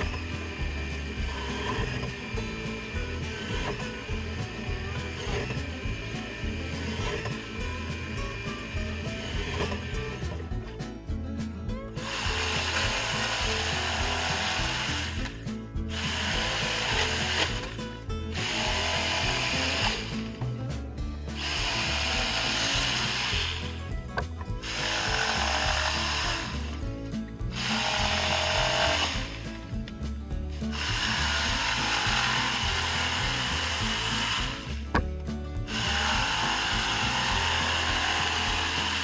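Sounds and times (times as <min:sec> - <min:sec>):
jigsaw cutting plywood: 0:00.0 - 0:10.5, 0:12.0 - 0:20.4, 0:21.3 - 0:26.8, 0:27.5 - 0:29.6, 0:30.6 - 0:39.0.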